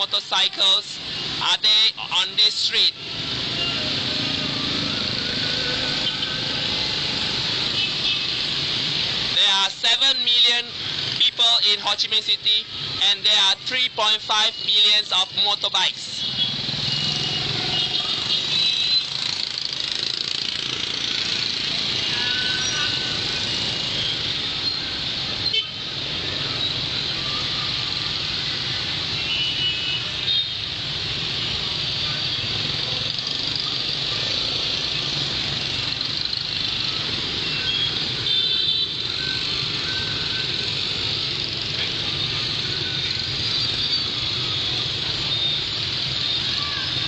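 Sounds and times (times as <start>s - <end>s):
motorbike engines running: 0.0s - 47.0s.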